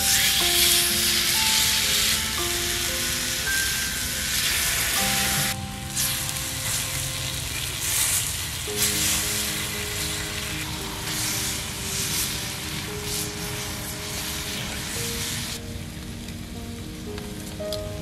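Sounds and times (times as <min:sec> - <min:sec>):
meat sizzling on hot tile: 0:00.0 - 0:18.0
soft background music: 0:00.0 - 0:18.0.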